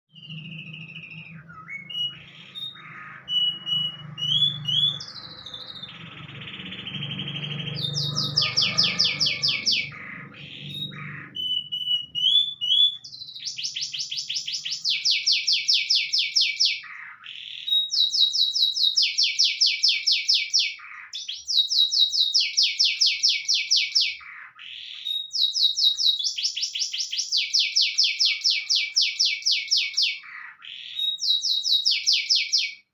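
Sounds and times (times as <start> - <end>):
canary singing: 0.1 - 32.9.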